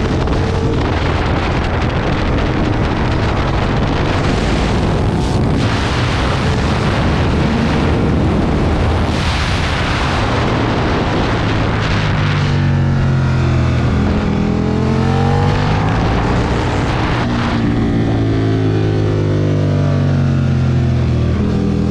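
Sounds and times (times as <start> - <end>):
wind rush: 0.0 - 21.9.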